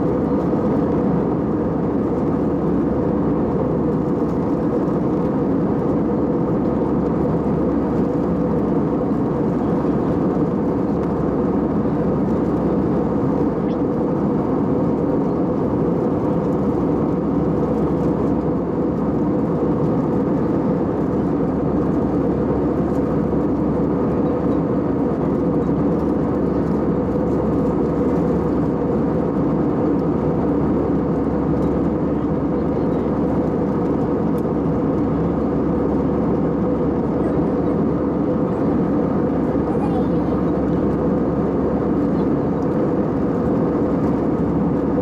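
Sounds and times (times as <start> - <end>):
airliner cabin noise: 0.0 - 45.0.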